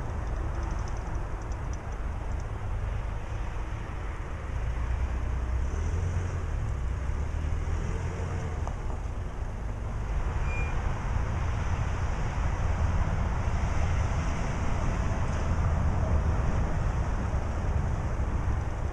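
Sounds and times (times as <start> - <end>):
tow tractor engine rumble: 0.0 - 18.9.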